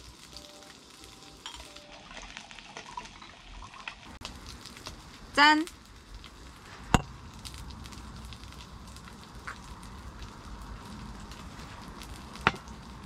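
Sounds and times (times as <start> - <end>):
fish sizzling: 0.0 - 13.0.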